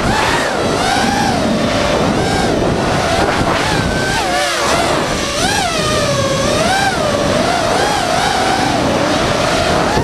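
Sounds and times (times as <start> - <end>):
drone motors whining: 0.0 - 10.0
steady rushing noise: 0.0 - 10.0.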